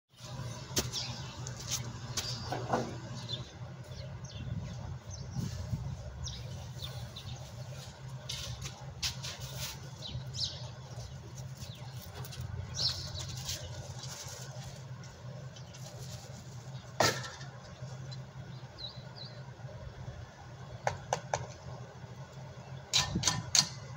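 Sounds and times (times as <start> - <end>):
birds chirping: 0.2 - 20.4.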